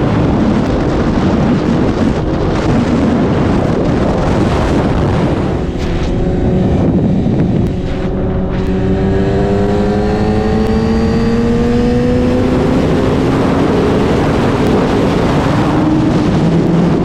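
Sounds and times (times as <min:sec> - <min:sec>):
motorcycle engine: 0:00.0 - 0:17.0
wind rush on microphone: 0:00.0 - 0:17.0.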